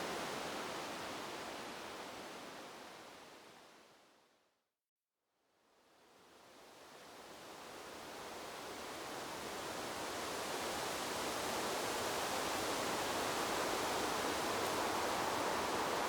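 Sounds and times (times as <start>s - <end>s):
wind rustling bamboo leaves: 0.0s - 4.2s, 5.8s - 16.0s.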